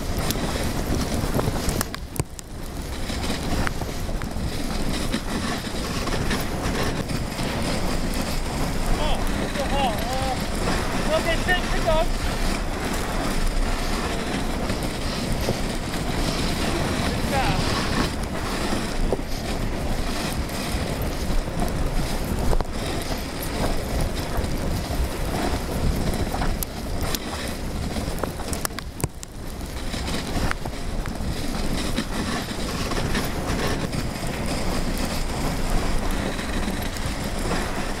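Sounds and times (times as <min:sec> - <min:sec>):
sled runners on snow: 0:00.0 - 0:38.0
wind on microphone: 0:00.0 - 0:38.0.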